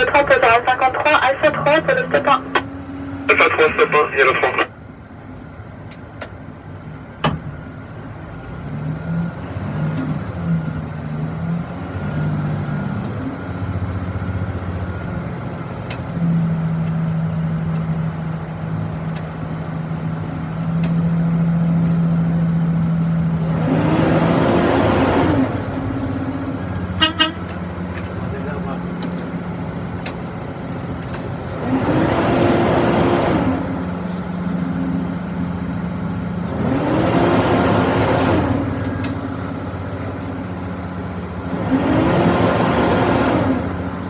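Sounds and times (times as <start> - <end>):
diesel tug engine running: 0.0 - 44.0.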